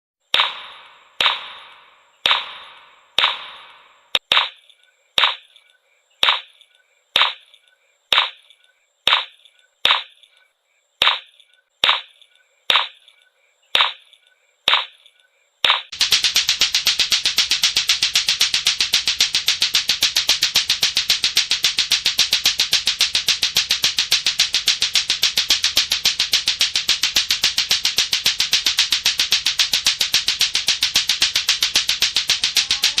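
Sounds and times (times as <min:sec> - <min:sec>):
clacker balls clacking: 0:00.3 - 0:10.4, 0:11.0 - 0:33.0.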